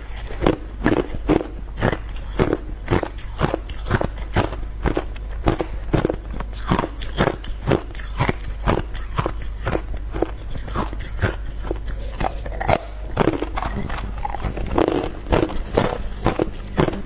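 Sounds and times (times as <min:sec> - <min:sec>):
ice crunching between teeth: 0:00.1 - 0:17.0.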